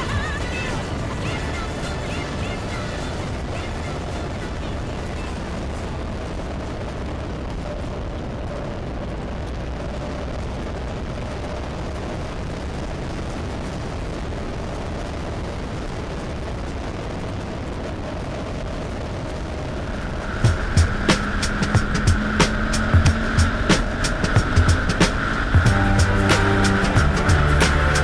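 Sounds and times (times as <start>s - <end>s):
wind rush and road noise: 0.0s - 28.0s.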